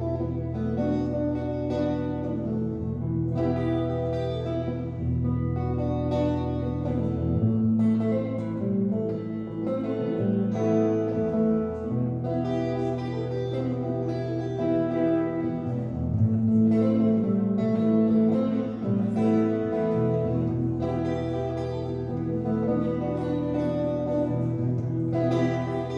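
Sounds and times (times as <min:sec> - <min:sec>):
electric guitar melody: 0:00.0 - 0:25.9.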